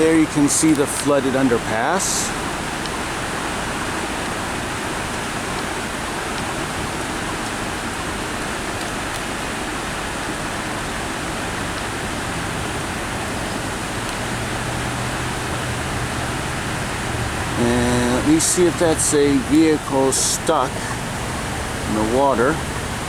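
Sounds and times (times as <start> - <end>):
road traffic noise: 0.0 - 23.0
vehicle engine hum: 0.0 - 23.0.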